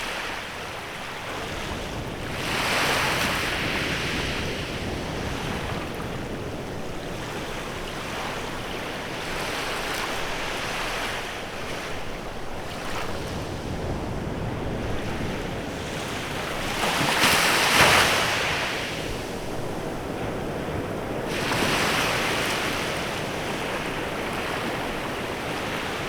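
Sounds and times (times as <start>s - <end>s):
waves breaking on a beach: 0.0s - 26.0s.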